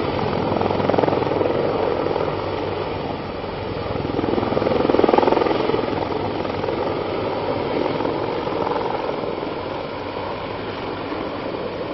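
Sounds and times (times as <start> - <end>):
helicopter flying overhead: 0.0 - 11.9.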